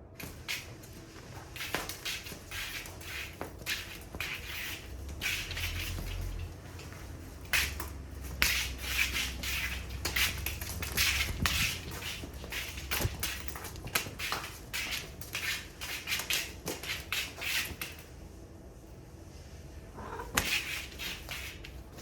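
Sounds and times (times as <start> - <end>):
cats rustling and scuffling: 0.0 - 22.0.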